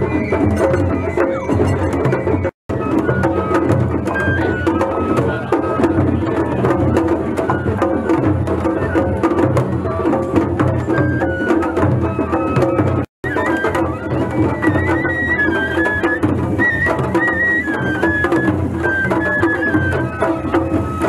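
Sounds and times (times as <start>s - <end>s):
bamboo flute melody: 0.0s - 21.0s
drums beating: 0.0s - 21.0s.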